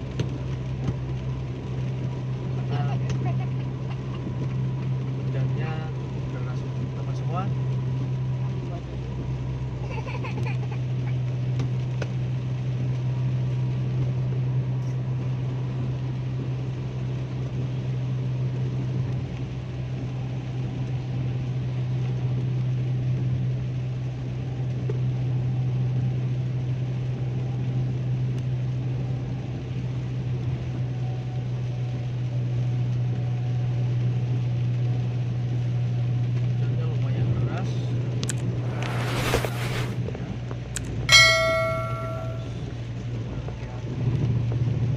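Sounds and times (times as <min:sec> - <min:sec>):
car engine and road drone: 0:00.0 - 0:36.5, 0:37.4 - 0:41.6
rain and tyres hissing on wet road: 0:00.0 - 0:40.8.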